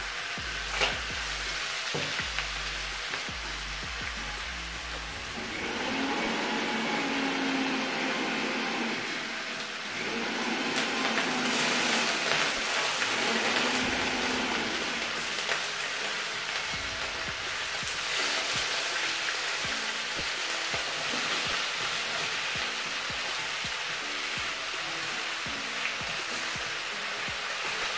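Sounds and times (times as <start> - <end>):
chicken sizzling in oil: 0.0 - 27.9
music track: 0.0 - 27.9.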